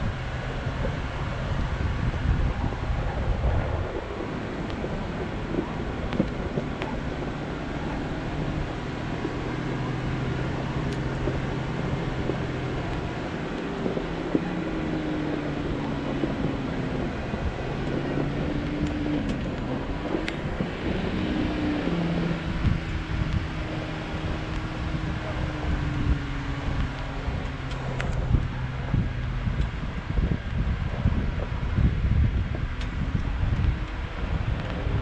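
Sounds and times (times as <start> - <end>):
engine running at low revs: 0.0 - 35.0
wind noise on microphone: 0.0 - 35.0.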